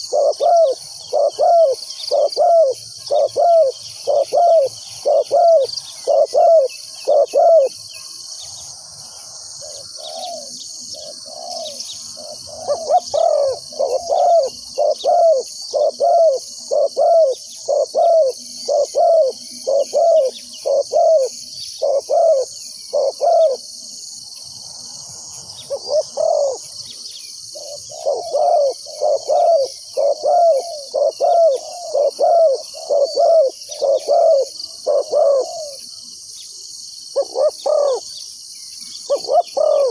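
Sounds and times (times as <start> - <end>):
doves cooing: 0.0 - 7.9, 9.5 - 23.7, 25.7 - 26.8, 27.5 - 36.1, 37.1 - 38.1, 39.0 - 39.9
high-pitched insect drone: 0.0 - 39.9.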